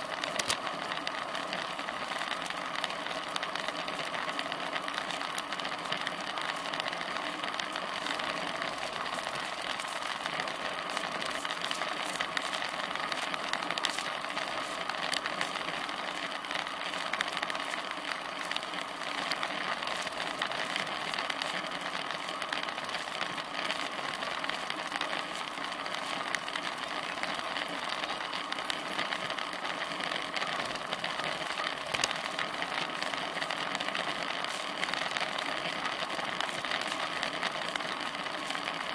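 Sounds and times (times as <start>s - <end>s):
bike ticks and rattles: 0.0s - 38.9s.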